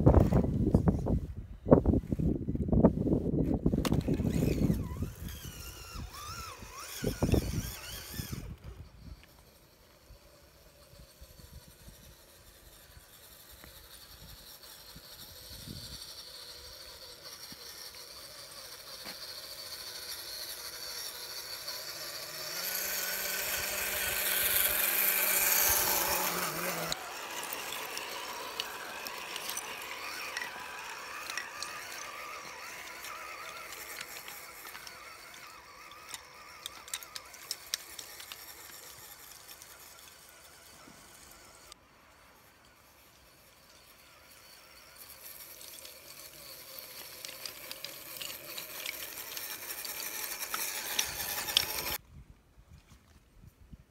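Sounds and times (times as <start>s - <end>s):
electric motor and gearbox whine: 1.8s - 52.0s.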